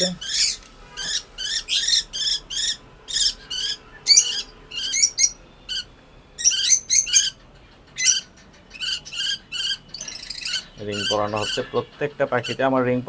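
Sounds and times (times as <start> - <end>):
lovebird screeching: 0.0 - 7.4, 8.0 - 12.7.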